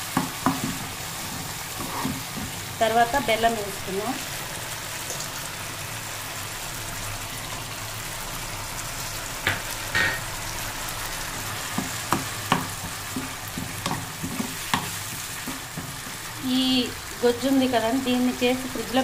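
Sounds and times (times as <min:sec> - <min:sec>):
gravy bubbling and sizzling: 0:00.0 - 0:19.0.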